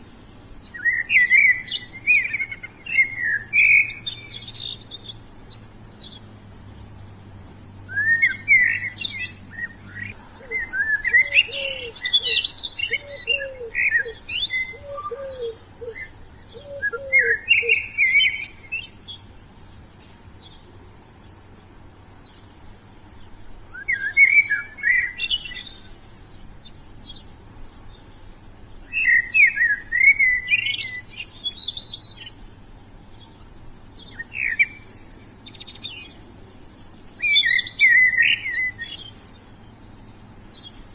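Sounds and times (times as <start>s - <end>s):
low repeated bird call: 0.0s - 40.9s
songbirds chirping: 0.0s - 40.9s.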